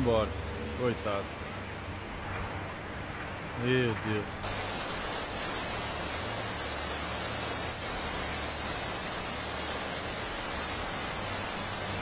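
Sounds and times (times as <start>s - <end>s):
rushing floodwater: 0.0s - 12.0s
heavy rain: 2.0s - 12.0s.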